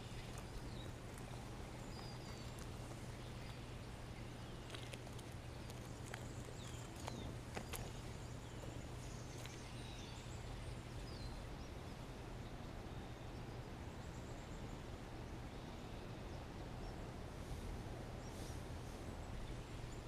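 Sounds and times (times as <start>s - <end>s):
faint bird chirps: 0.0s - 20.0s
low background hum: 0.0s - 20.0s.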